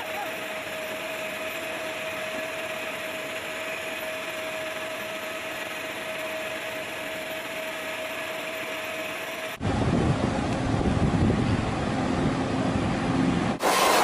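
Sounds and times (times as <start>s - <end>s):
aircraft turbine whine: 0.0s - 14.0s.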